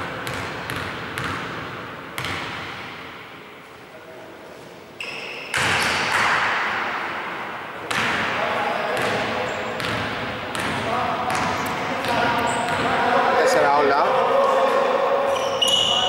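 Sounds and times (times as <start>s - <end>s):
players' voices and movement: 1.6s - 16.0s.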